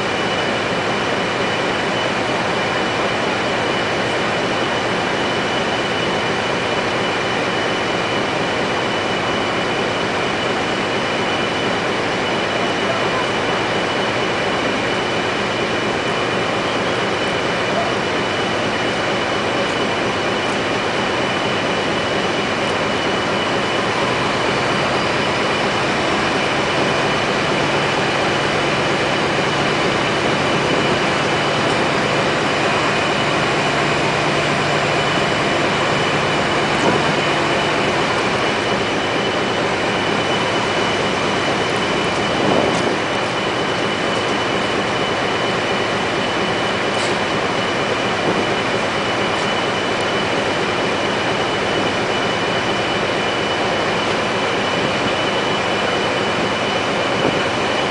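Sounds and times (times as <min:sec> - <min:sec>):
heavy machinery running: 0:00.0 - 0:57.9
high whine: 0:00.0 - 0:57.9.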